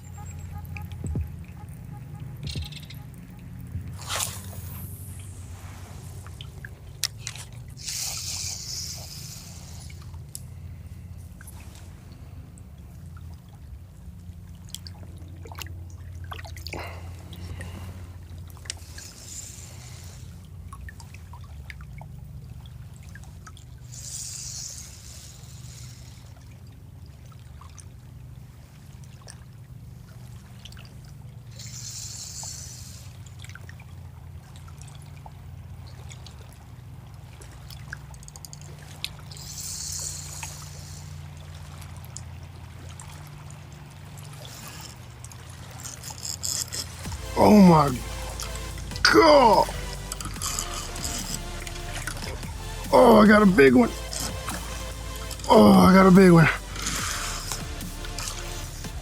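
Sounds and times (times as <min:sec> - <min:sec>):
low steady hum: 0:00.0 - 0:59.0
soft water washes: 0:00.0 - 0:59.0
water trickling and splashing: 0:00.0 - 0:59.0.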